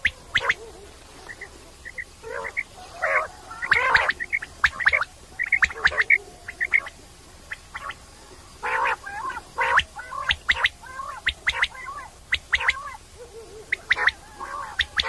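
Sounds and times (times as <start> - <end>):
quail harsh rasping calls: 0.0 - 15.0.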